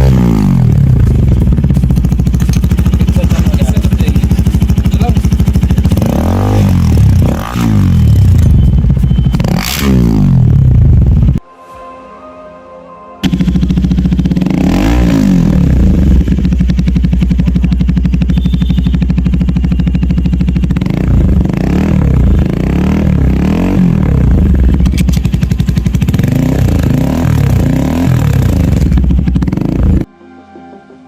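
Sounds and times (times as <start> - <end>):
motorcycle engine revving: 0.0 - 11.4, 13.2 - 30.1.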